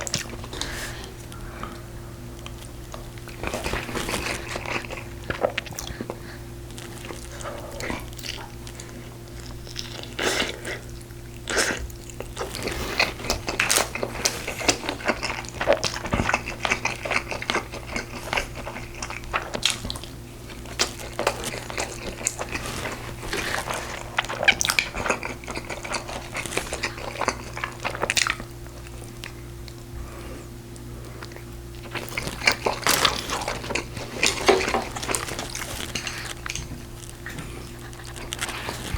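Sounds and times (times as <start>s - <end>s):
person chewing and biting: 0.0s - 29.8s, 31.2s - 38.9s.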